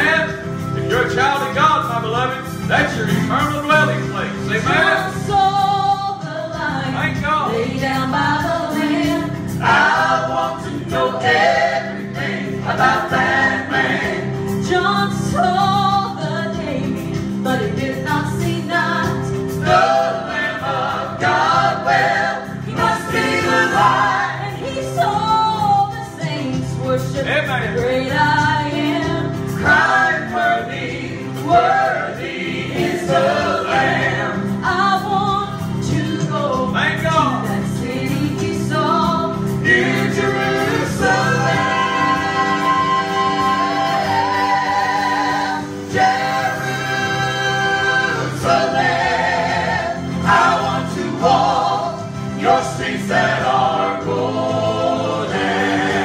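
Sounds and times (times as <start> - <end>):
group singing a hymn in harmony: 2.9 - 6.8, 7.5 - 26.3, 28.1 - 36.8, 37.4 - 56.0.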